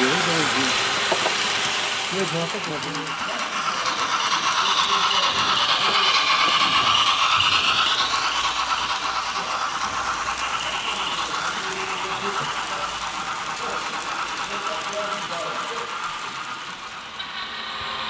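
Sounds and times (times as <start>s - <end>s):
model train wheels rattling: 0.0s - 18.0s.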